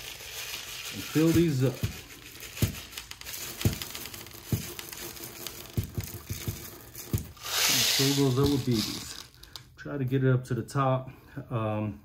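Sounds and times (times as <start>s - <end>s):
steel balls pouring and rattling: 0.0s - 9.6s.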